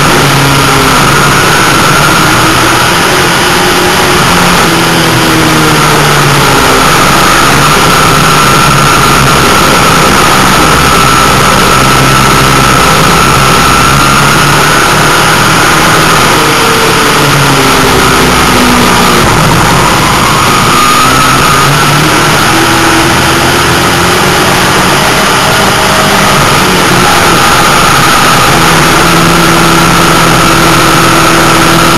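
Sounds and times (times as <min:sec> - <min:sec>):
race car engine: 0:00.0 - 0:31.9
wind and track noise: 0:00.0 - 0:31.9.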